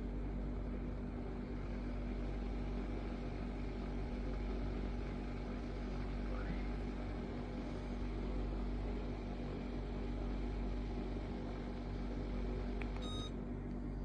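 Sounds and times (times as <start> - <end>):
portable fan whirring: 0.0 - 14.0.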